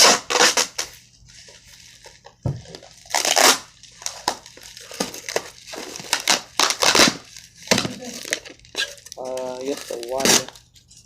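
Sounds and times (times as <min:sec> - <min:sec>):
packaging crinkling and rustling: 0:00.5 - 0:11.0.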